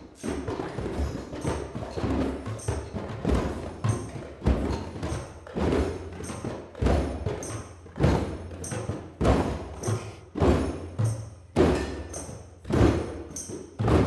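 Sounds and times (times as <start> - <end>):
hand drums playing bass tones: 0.2 - 14.0.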